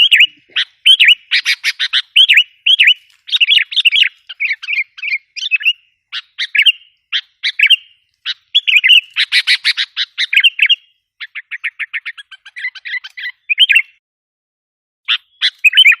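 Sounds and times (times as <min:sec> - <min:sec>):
bird chirping and rattling: 0:00.0 - 0:13.8.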